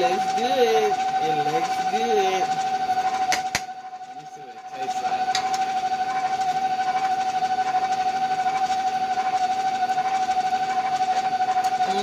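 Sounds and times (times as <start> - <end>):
electric mixer motor whining: 0.0 - 12.0.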